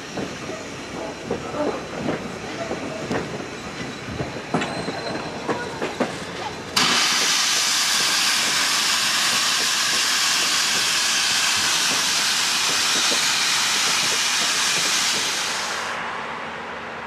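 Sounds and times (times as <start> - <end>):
steam locomotive venting steam: 0.0 - 16.3.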